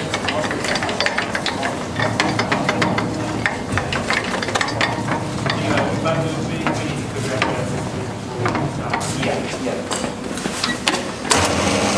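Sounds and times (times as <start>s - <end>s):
milling cutter crackling on metal: 0.0s - 11.6s.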